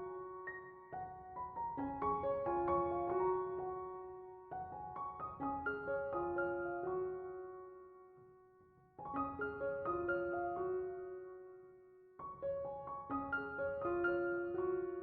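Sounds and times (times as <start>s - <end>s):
piano music: 0.0s - 8.4s, 9.0s - 15.0s.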